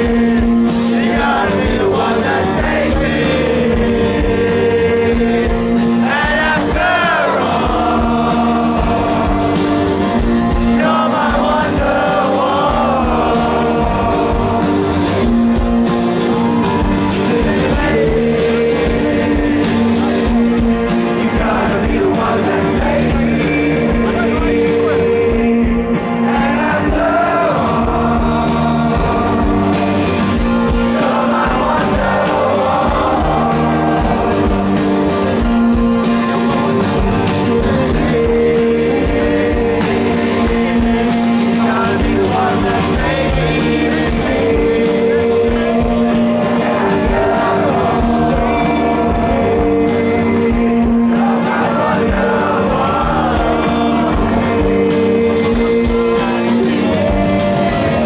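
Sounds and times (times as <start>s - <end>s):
person singing: 0.0s - 58.0s
rock band playing: 0.0s - 58.0s.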